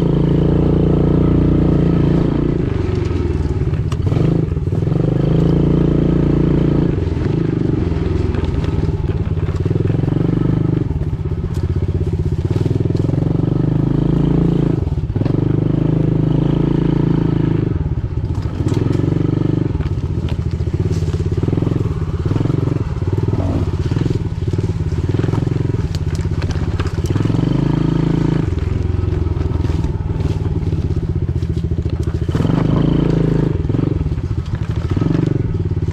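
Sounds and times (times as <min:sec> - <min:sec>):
pit bike engine revving: 0:00.0 - 0:35.9.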